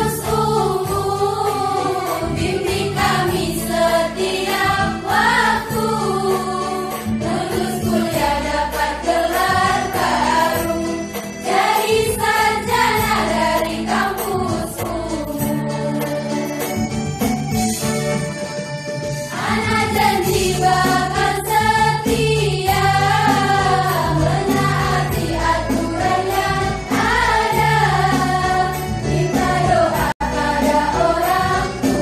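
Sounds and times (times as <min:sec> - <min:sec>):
women's choir singing: 0:00.0 - 0:16.1, 0:19.3 - 0:32.0.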